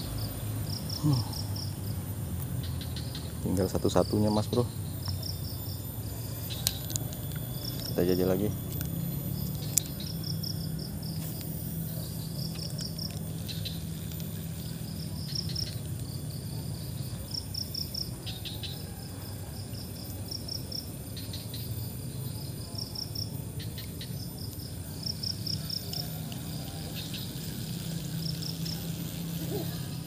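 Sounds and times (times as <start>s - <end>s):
insect chirping: 0.0s - 30.0s.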